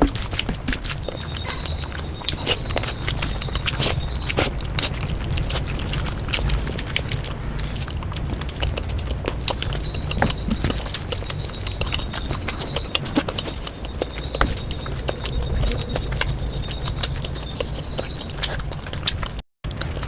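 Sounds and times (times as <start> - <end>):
close chewing and mouth sounds: 0.0 - 20.0.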